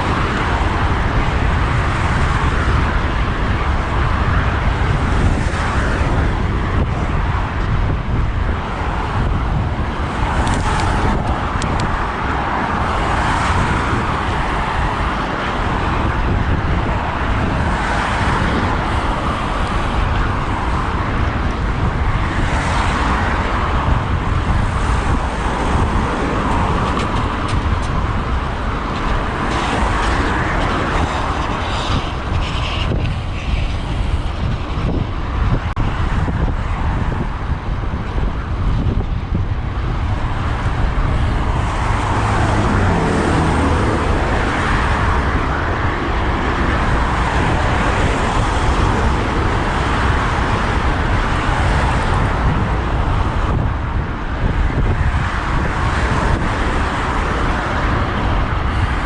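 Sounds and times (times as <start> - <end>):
cars passing: 0.0 - 59.0
low traffic rumble: 0.0 - 59.0.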